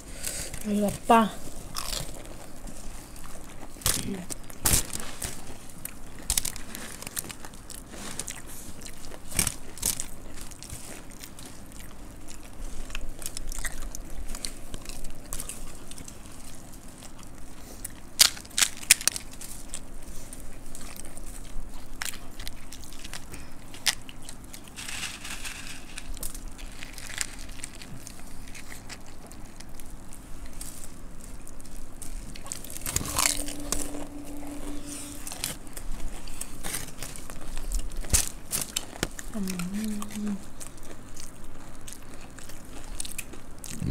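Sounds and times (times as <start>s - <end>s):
crackle of dry snack mix: 0.0s - 43.9s
crunching and chewing puffed rice: 0.0s - 43.9s.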